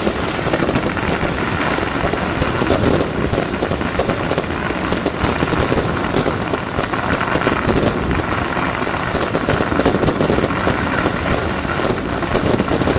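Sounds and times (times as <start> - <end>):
firecrackers crackling: 0.0 - 12.9.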